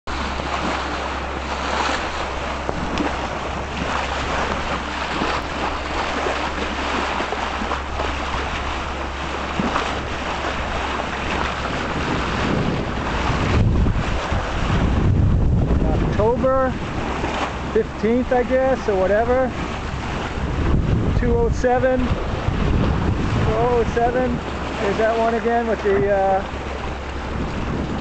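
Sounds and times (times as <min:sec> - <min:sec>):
water rushing along hull: 0:00.0 - 0:28.0
wind buffeting microphone: 0:00.1 - 0:28.0.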